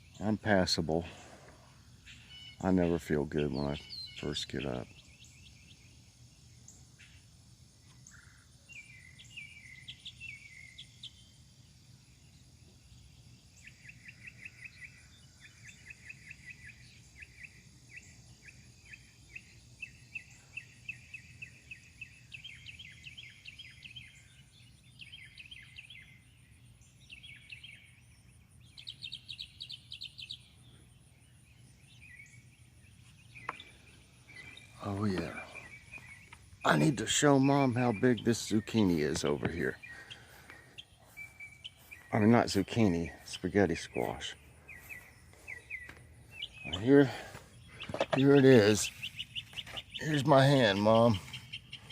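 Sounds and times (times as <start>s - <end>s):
faint high insect buzz: 0.0s - 51.9s
songbirds chirping and trilling: 0.0s - 51.9s.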